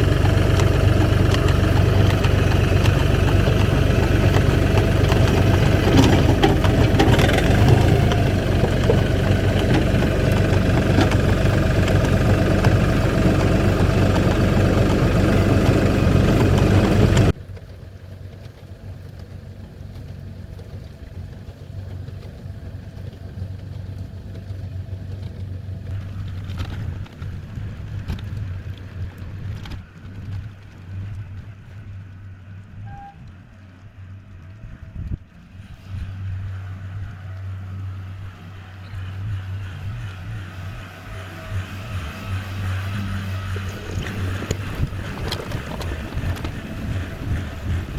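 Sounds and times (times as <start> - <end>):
low engine hum: 0.0 - 47.9
vehicle engine running: 0.0 - 47.9.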